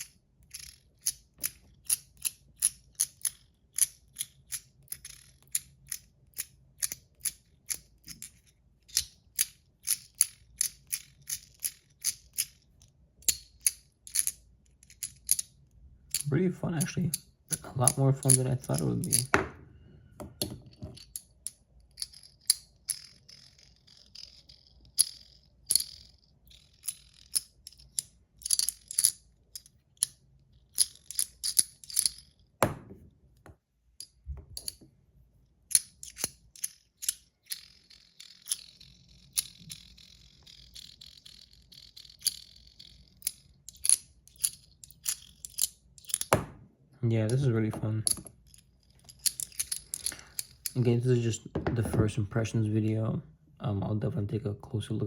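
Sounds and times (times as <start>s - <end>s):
metal fidget toy clicking: 0.0s - 19.3s, 21.0s - 32.5s, 35.7s - 46.4s, 48.1s - 50.8s.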